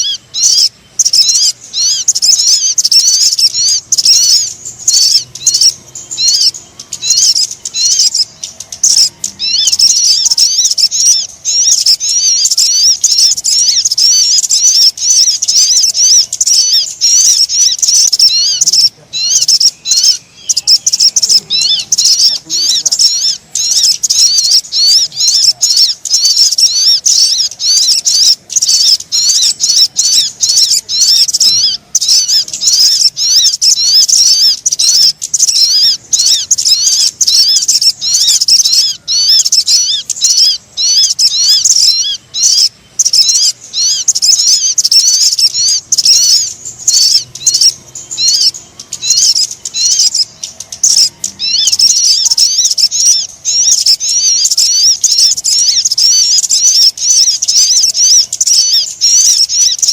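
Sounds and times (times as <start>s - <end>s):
high-pitched bird song twittering: 0.0s - 59.9s.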